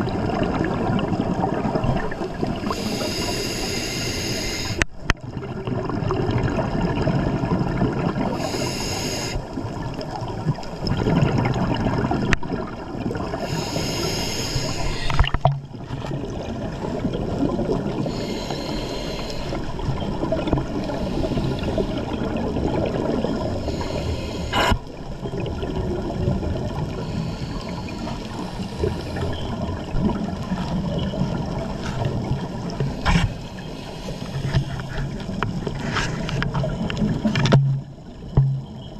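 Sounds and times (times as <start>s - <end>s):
water gurgling and bubbling: 0.0s - 38.9s.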